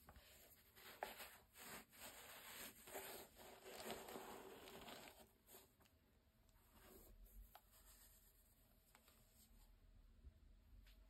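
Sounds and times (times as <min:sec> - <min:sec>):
gloves rustling and scraping: 0:00.0 - 0:06.0, 0:06.6 - 0:09.8.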